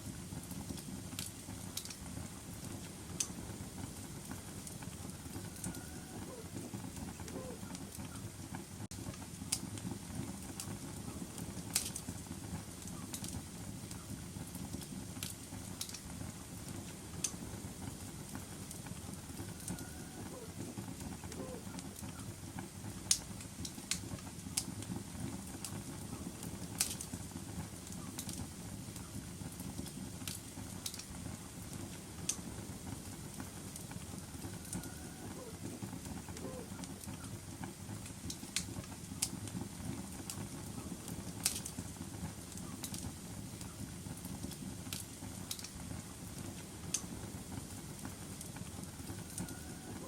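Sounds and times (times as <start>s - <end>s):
fire crackling and popping: 0.0s - 50.0s
low rumble of flames: 0.0s - 50.0s.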